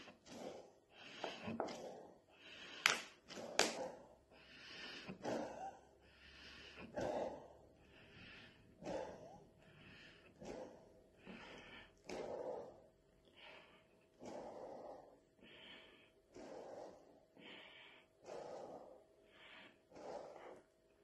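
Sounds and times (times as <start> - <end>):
gasping in-breaths: 0.0 - 21.0.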